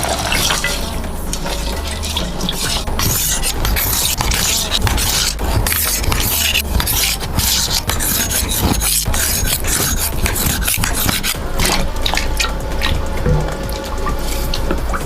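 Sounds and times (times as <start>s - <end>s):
rough scratchy rasping: 0.0s - 15.0s.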